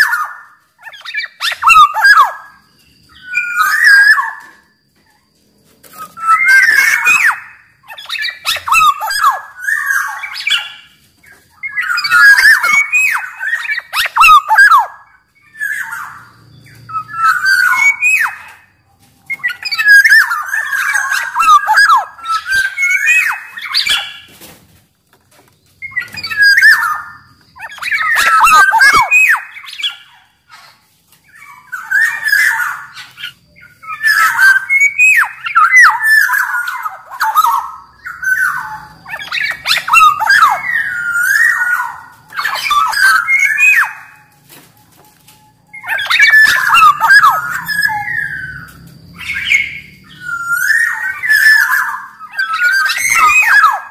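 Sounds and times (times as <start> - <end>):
oriole singing whistled phrases: 0.0 - 4.6, 6.0 - 18.6, 19.3 - 24.3, 25.8 - 44.3, 45.2 - 53.9.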